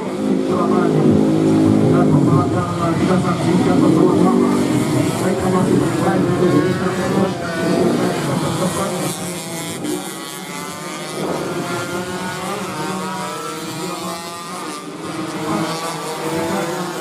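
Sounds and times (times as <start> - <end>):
racing motorcycles revving: 0.0 - 17.0.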